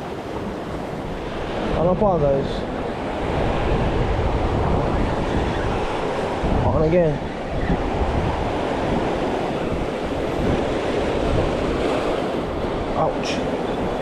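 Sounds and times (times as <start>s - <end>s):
waves washing on shore: 0.0s - 14.0s
wind buffeting microphone: 0.0s - 14.0s.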